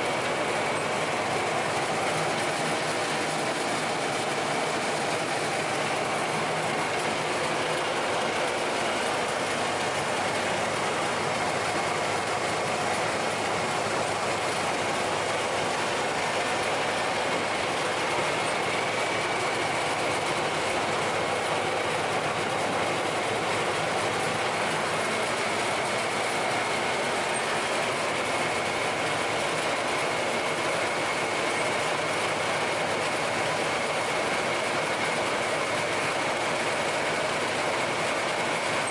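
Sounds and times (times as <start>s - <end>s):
machine motors and rollers running: 0.0s - 38.9s.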